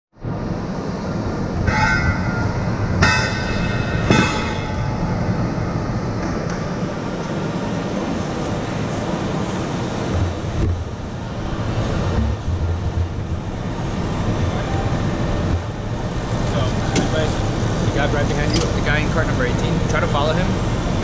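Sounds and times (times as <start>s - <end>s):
go-karts rumbling: 0.4s - 21.0s.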